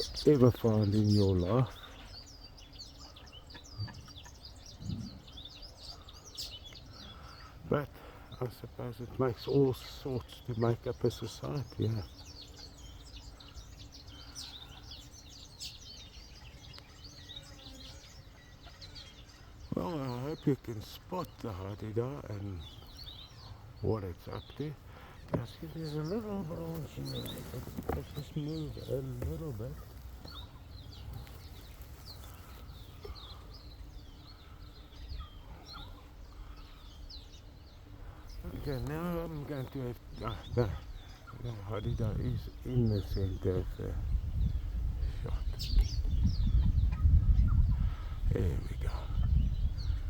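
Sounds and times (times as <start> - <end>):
small birds chirping chorus: 0.0 - 50.0.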